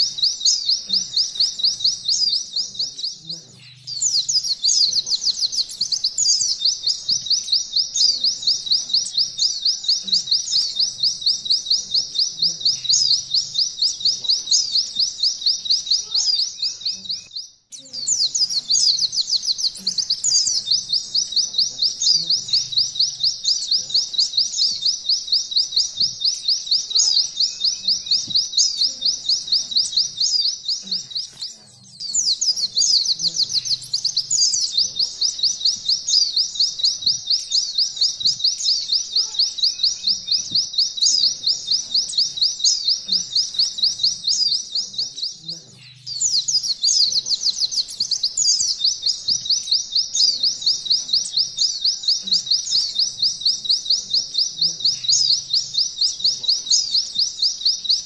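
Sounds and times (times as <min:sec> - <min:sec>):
bird singing fast trills: 0:00.0 - 0:58.0.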